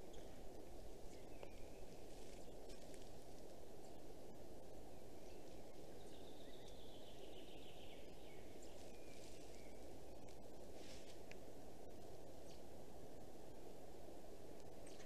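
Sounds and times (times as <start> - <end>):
distant small bird calls: 0.0 - 15.0
low rushing forest background: 0.0 - 15.0.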